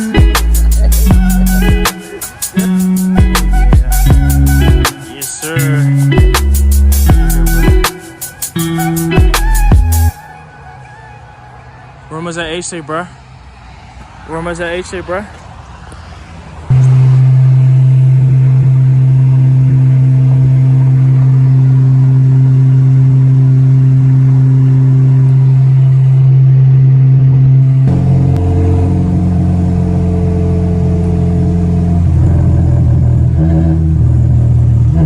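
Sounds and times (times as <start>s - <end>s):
car engine droning: 0.0s - 35.0s.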